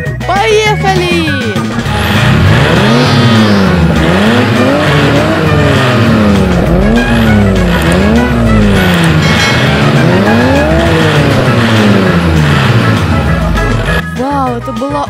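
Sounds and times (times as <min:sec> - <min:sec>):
race car engine sound revving: 0:01.6 - 0:14.0.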